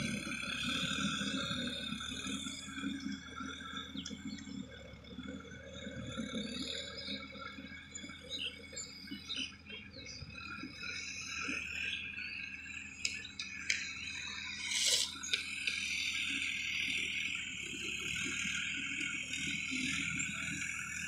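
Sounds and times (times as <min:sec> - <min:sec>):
distant tractor diesel engine: 0:00.0 - 0:21.0
steady high-pitched buzz: 0:00.0 - 0:21.0.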